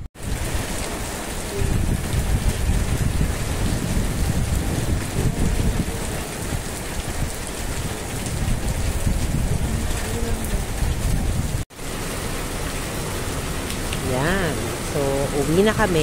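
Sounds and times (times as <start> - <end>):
rain downpour hissing: 0.0 - 16.0.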